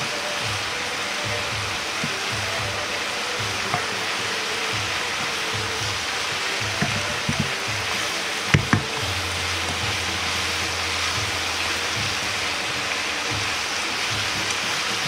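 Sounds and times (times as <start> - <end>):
noodles sizzling in frying pan: 0.0 - 15.0.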